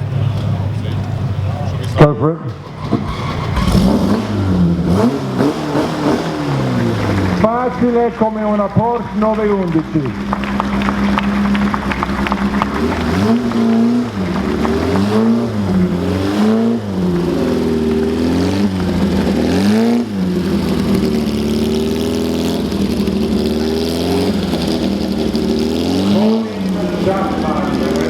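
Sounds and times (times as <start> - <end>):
racing car engine idling and blipping: 0.0 - 28.0.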